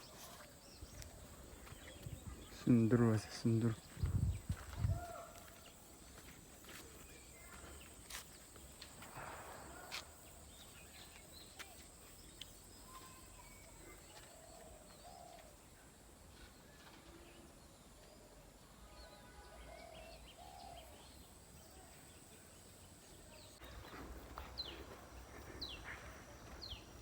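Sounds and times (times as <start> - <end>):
faint bird calls and chirps: 0.0 - 27.0.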